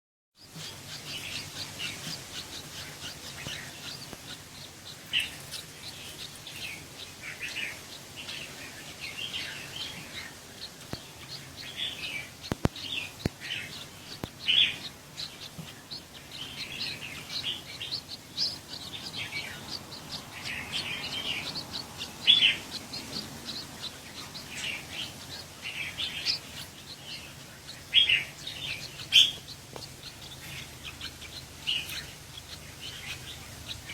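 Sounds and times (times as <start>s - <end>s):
bird chicks chirping: 0.4s - 33.9s.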